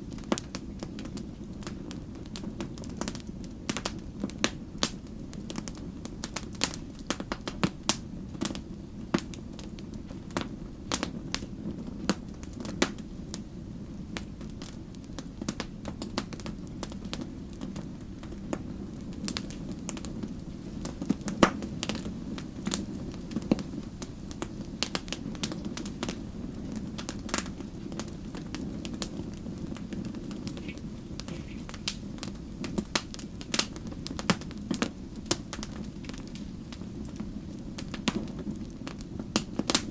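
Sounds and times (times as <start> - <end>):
burning wood crackling: 0.0 - 39.9
low rumble of flames: 0.0 - 39.9.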